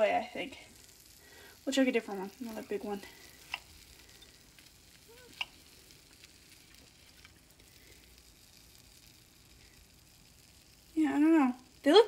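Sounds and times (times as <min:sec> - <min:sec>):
hot fat sizzling in a pan: 0:00.0 - 0:12.0.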